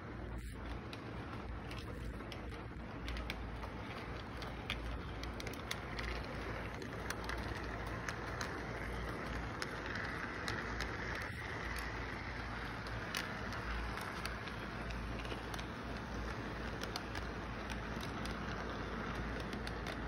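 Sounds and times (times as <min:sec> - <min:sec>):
low background hum: 0:00.0 - 0:20.0
model train rolling on track: 0:00.0 - 0:20.0
wheel clicks: 0:00.4 - 0:20.0.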